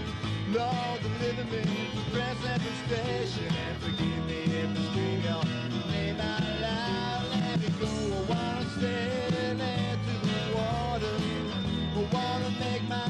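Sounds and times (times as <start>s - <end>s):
bass line: 0.0s - 13.0s
electric guitar: 0.0s - 13.0s
mandolin: 0.0s - 13.0s
strummed acoustic guitar: 0.0s - 13.0s.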